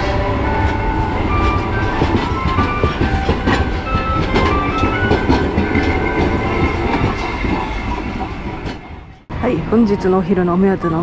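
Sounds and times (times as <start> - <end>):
wheels clacking over rail joints: 0.0 - 9.3
streetcar rumbling past: 0.0 - 11.0.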